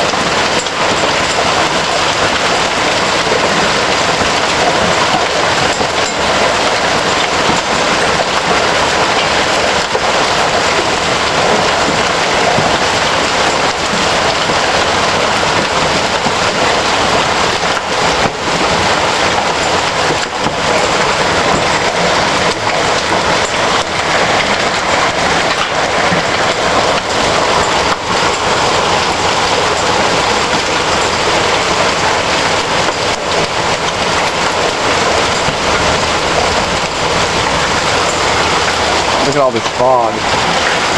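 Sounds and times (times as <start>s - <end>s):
hail and heavy rain pelting: 0.0s - 40.9s.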